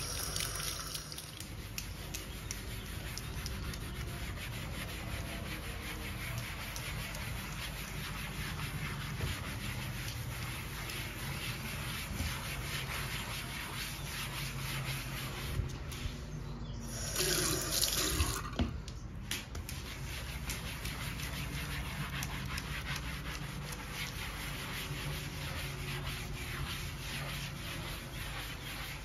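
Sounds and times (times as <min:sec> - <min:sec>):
scrub brush scrubbing countertop: 0:00.0 - 0:16.4, 0:19.5 - 0:29.0.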